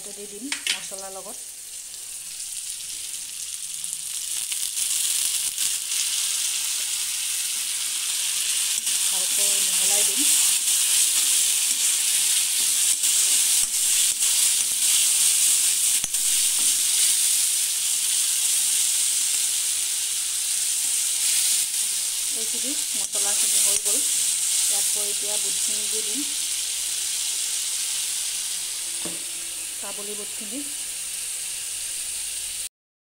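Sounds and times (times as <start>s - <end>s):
spices sizzling in hot oil: 0.0s - 32.7s.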